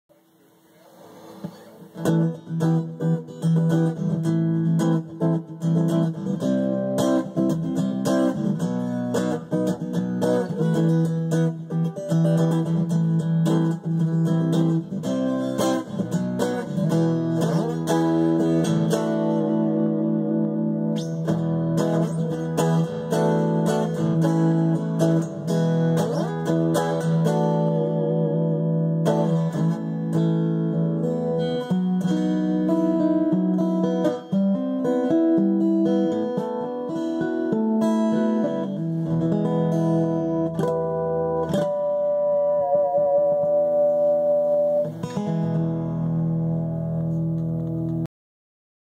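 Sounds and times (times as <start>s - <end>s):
electric guitar picked notes and chords: 1.4s - 48.1s.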